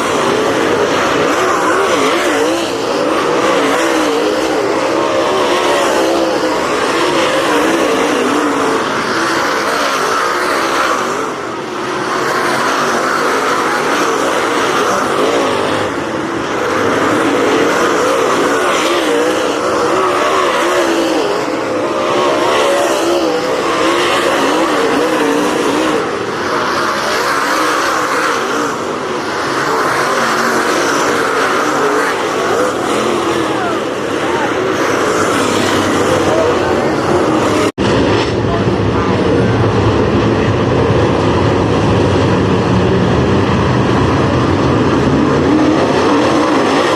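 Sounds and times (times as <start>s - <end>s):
race car engines running hard: 0.0s - 46.9s.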